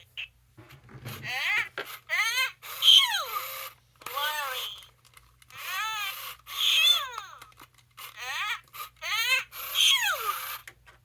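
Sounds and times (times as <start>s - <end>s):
toy high-pitched electronic calls: 1.3s - 4.9s, 5.5s - 10.7s.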